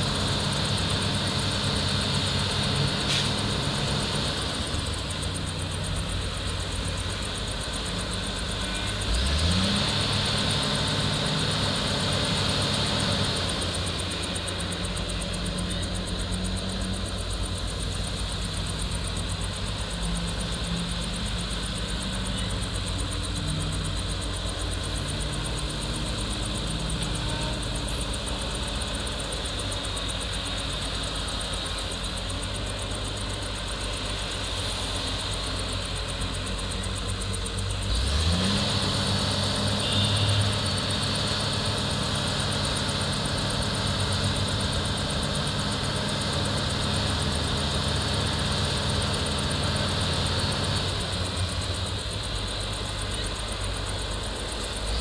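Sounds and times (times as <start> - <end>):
diesel engine revving: 0.0 - 55.0
heavy diesel engines running: 0.0 - 55.0.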